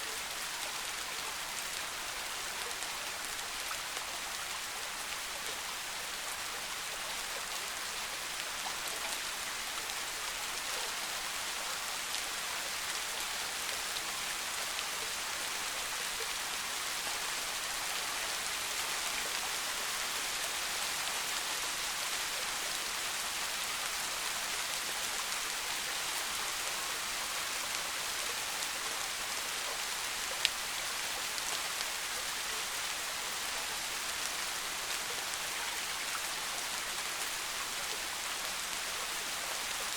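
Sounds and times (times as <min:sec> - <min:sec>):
soft rain patter: 0:00.0 - 0:39.9.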